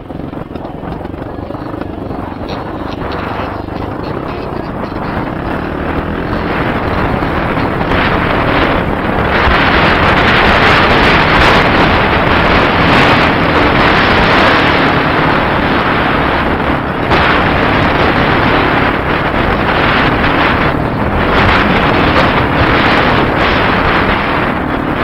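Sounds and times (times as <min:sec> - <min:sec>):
dirt bike engine running: 0:00.0 - 0:25.0
wind buffeting microphone: 0:00.0 - 0:25.0.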